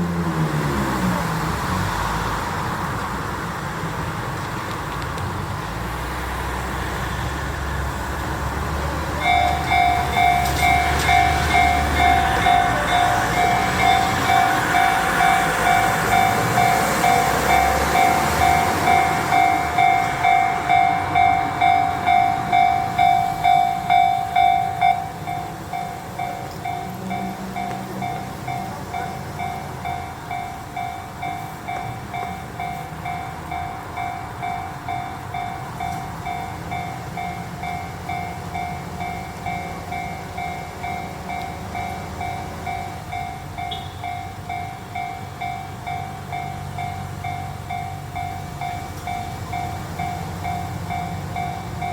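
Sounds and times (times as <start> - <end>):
train running noise: 0.0 - 51.9
level crossing warning bell: 6.0 - 51.9.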